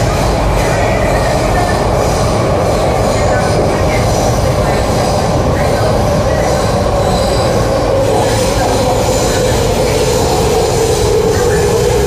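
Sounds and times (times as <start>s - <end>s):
train hum: 0.0s - 12.0s
train wheels rumbling on rail: 0.0s - 12.0s.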